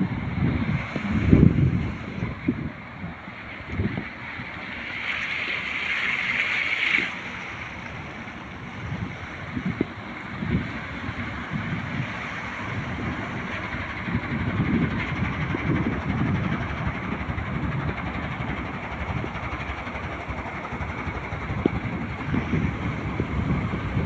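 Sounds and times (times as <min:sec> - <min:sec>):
steady rushing noise: 0:00.0 - 0:24.0
wind buffeting microphone: 0:00.0 - 0:24.0.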